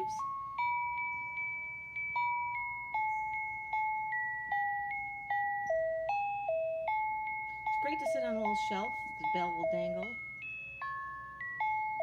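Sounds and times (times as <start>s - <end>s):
electronic bell-like tune: 0.0s - 12.0s.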